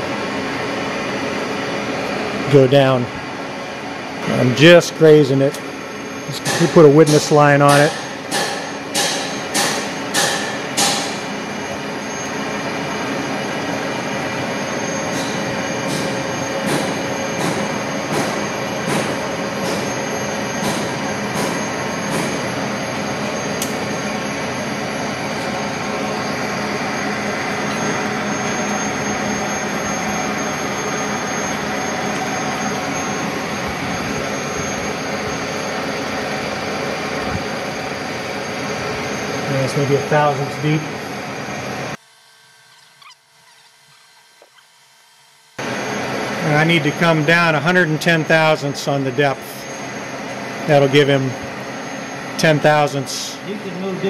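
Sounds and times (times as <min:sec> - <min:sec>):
milling machine whirring: 0:00.0 - 0:54.0.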